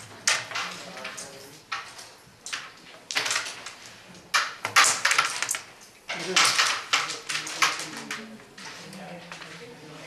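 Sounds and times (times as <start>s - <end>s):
carrom pieces clattering: 0.0s - 9.8s.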